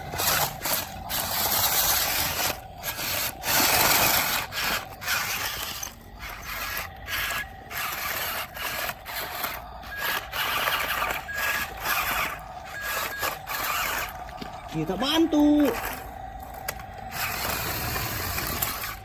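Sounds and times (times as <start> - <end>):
small electric motor whirring: 0.0 - 19.0.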